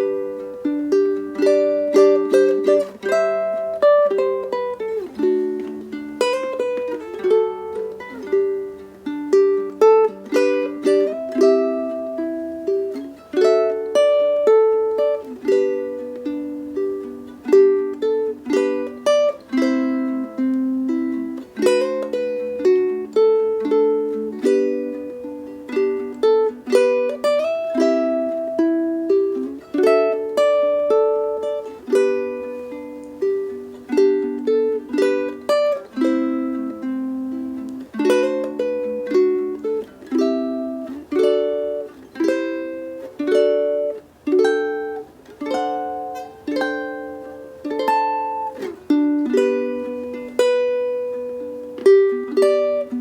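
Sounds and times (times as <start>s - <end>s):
fingerstyle ukulele playing: 0.0s - 53.0s.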